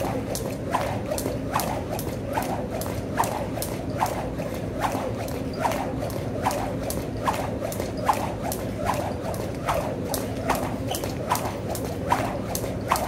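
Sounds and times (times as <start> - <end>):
jump rope slapping the floor: 0.0 - 13.0.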